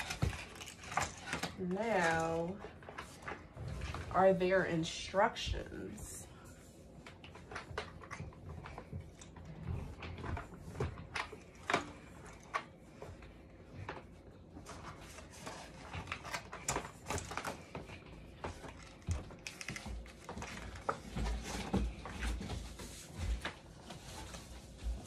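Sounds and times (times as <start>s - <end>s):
clicks and knocks of handling: 0.0s - 3.4s, 7.0s - 25.0s.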